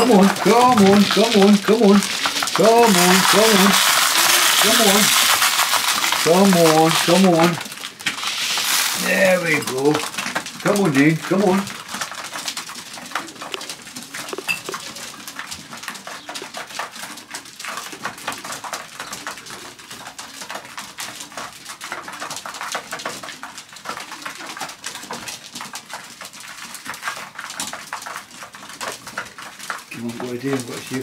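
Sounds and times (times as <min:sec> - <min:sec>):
pigeons pecking grain: 0:00.0 - 0:31.0.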